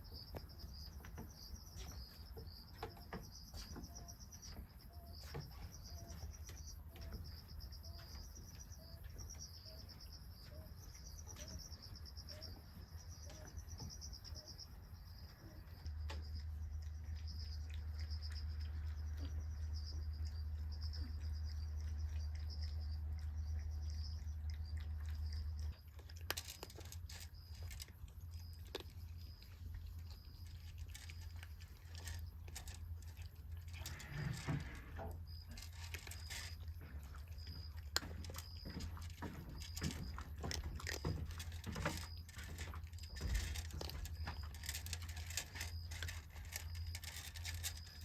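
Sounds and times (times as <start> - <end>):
insects chirping trill: 0.0 - 25.8, 32.0 - 48.0
small clicks and crunching: 0.0 - 48.0.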